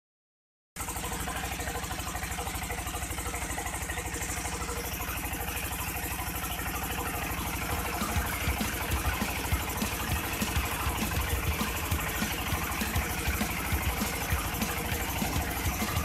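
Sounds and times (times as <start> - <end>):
boat engine throbbing: 0.8 - 16.0.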